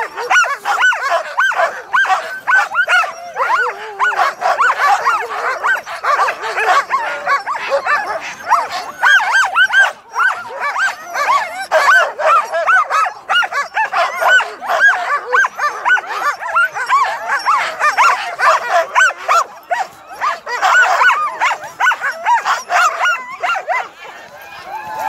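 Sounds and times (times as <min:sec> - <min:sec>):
sled dogs barking and yipping: 0:00.0 - 0:25.0.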